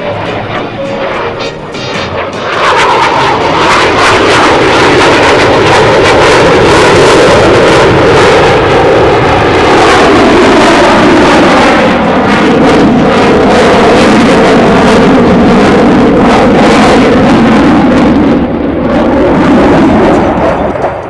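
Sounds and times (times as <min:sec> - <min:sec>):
loud jet engine noise: 0:00.0 - 0:21.0.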